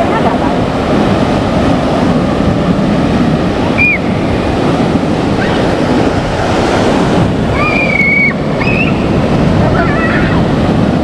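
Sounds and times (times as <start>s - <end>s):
surf washing up beach: 0.0s - 11.0s
wind buffeting microphone: 0.0s - 11.0s.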